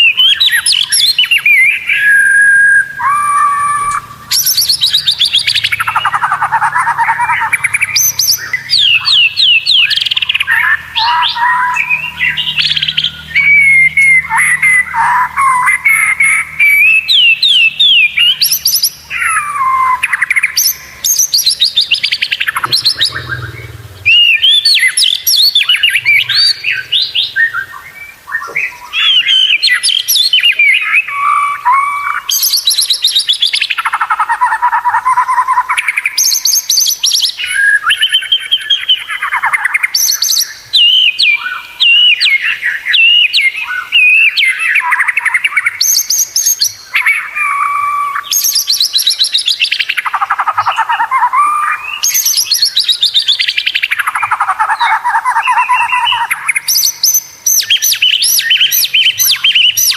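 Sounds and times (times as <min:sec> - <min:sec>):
bird singing whistled song: 0:00.0 - 0:59.9.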